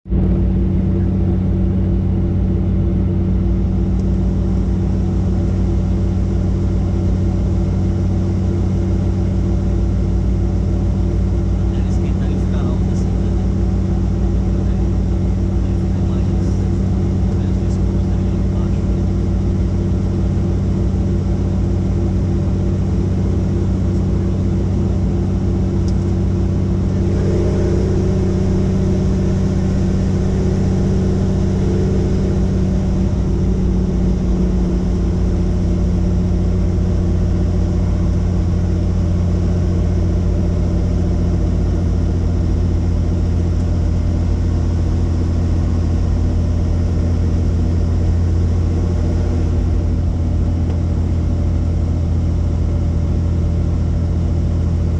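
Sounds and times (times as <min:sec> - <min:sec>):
helicopter engine and rotor hum: 0:00.1 - 0:54.9.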